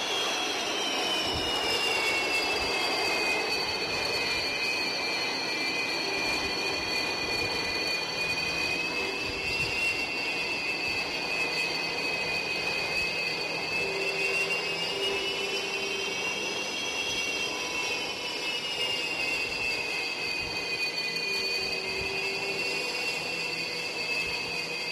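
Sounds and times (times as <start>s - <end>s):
jet engines running with whine: 0.0s - 24.9s.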